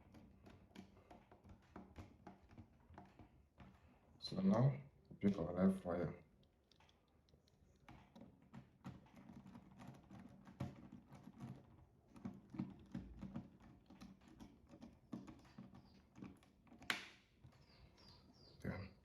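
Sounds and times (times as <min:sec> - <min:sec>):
clicks and taps of wire handling: 0:00.0 - 0:05.6, 0:06.2 - 0:18.1.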